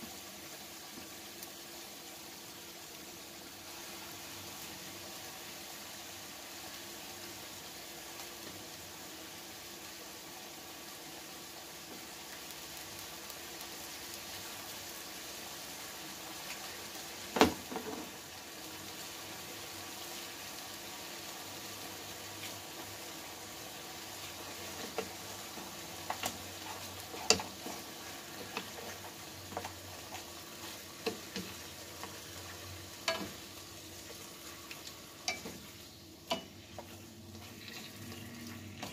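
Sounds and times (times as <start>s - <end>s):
meat sizzling in a pan: 0.0s - 38.9s.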